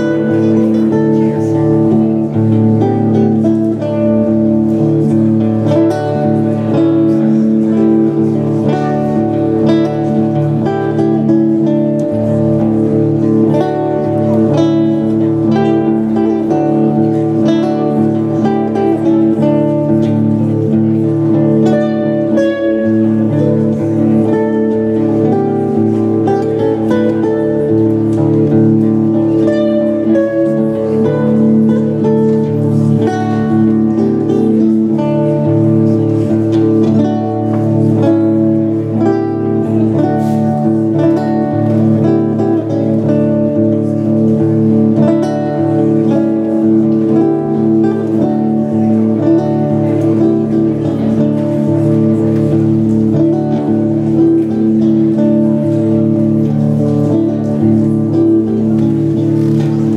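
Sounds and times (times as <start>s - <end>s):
guitar plucking notes: 0.0s - 59.9s.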